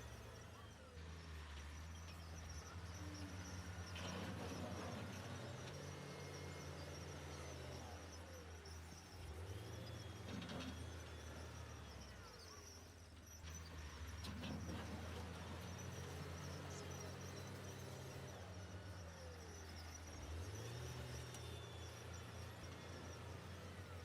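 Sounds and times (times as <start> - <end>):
heavy machinery diesel engine running: 0.0 - 24.0.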